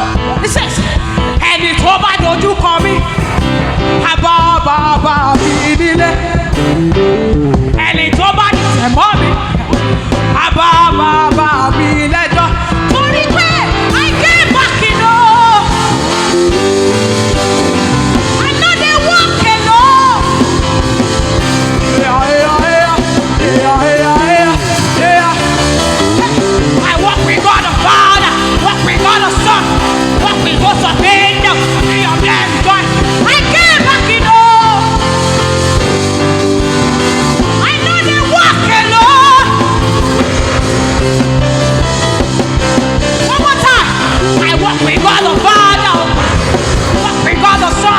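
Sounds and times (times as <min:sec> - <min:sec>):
person singing: 0:00.0 - 0:17.6, 0:18.2 - 0:36.6, 0:37.4 - 0:47.9
gospel band playing: 0:00.0 - 0:47.9.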